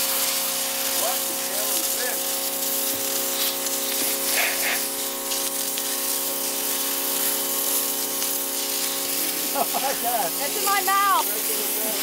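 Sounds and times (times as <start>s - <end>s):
pressure washer jet hissing: 0.0s - 12.0s
pump hum: 0.0s - 12.0s.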